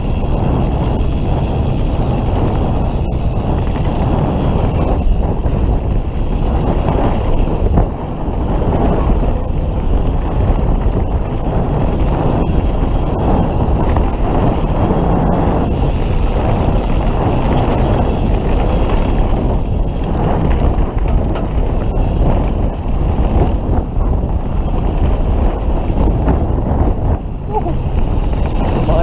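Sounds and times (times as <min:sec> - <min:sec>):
knobby tyres rumbling on dirt: 0:00.0 - 0:29.0
mountain bike rattling: 0:00.0 - 0:29.0
wind rush on microphone: 0:00.0 - 0:29.0.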